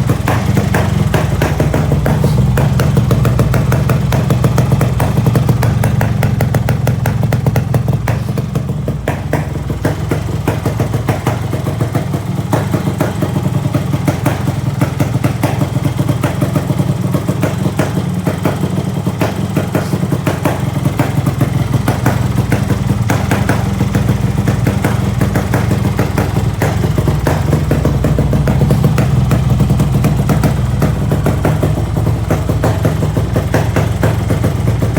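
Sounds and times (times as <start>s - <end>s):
two-stroke motorcycle engine idling: 0.0s - 34.9s.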